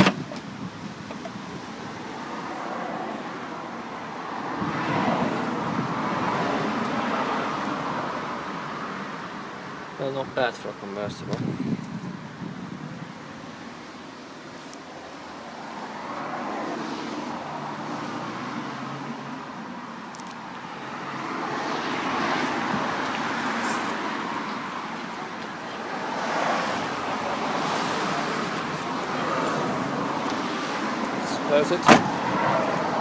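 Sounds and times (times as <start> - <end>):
cars passing by: 0.0 - 33.0.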